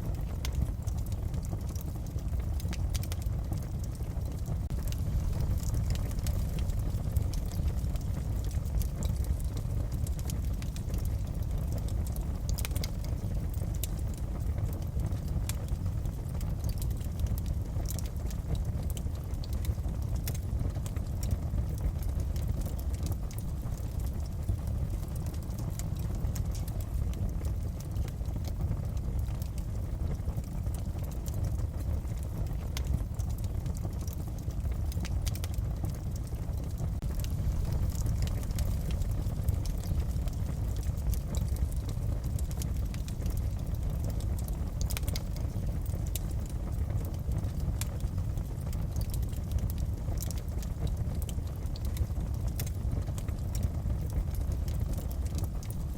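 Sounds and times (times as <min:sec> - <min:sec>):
fire crackling with pops: 0:00.0 - 0:55.9
low rumble of fire: 0:00.0 - 0:55.9.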